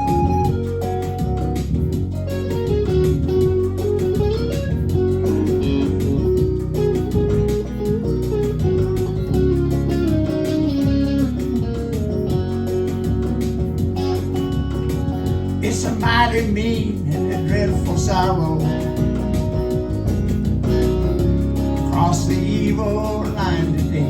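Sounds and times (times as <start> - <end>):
single-note guitar lead: 0.0 - 24.0
steady bass: 0.0 - 24.0
strummed rhythm guitar: 0.0 - 24.0.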